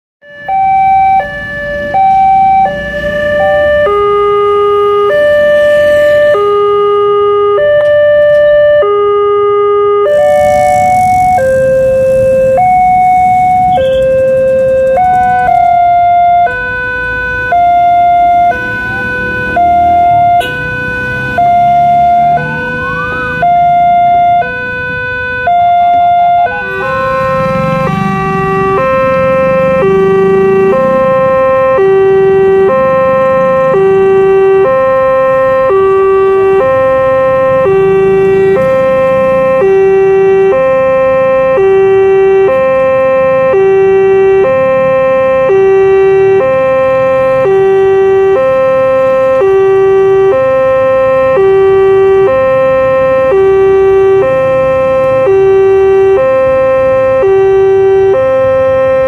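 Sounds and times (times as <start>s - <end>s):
level crossing two-tone alarm: 0.2s - 59.0s
lower two-tone crossing alarm: 0.2s - 59.0s.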